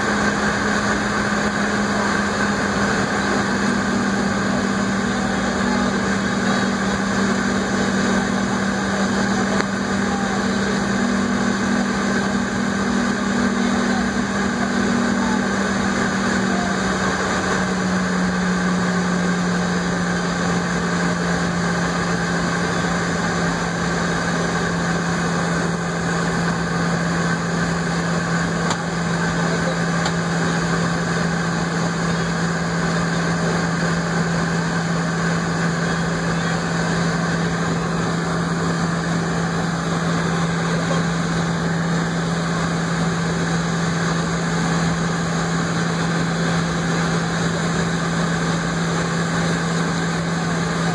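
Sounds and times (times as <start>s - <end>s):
jet engines idling drone: 0.0s - 50.9s.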